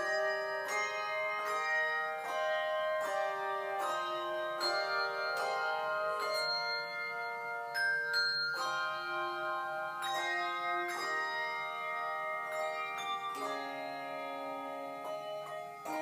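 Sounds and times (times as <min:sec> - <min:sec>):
handbell choir ringing chords: 0:00.0 - 0:16.0.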